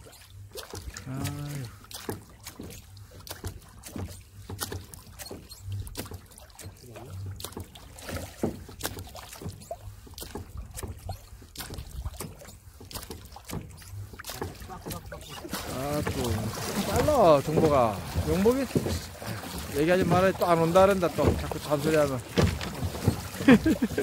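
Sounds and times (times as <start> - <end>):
knocks and clicks on boat: 0.0 - 24.0.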